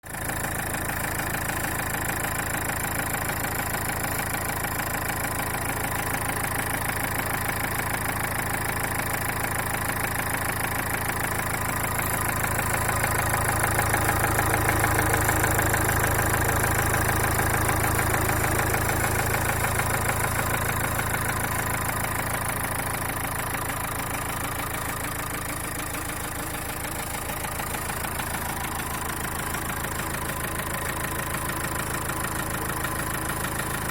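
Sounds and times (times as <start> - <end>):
diesel engine idling: 0.0 - 33.9
fuel injector knocking: 0.1 - 33.9.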